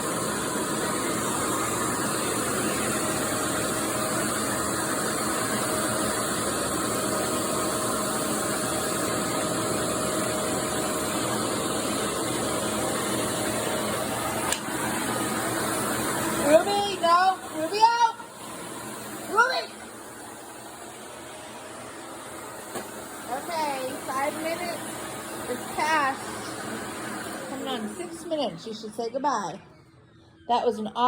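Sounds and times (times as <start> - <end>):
vacuum cleaner running: 0.0 - 29.8.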